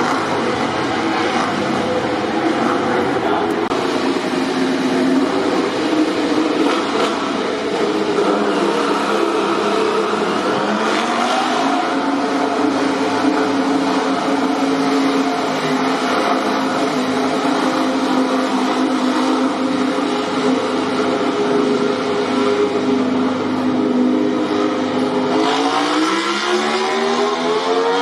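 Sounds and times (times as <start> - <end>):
racing motorcycle engine running: 0.0 - 28.0.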